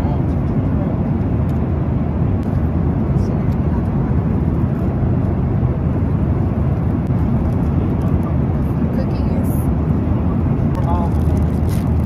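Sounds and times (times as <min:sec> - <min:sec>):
airliner cabin jet engine rumble: 0:00.0 - 0:12.0.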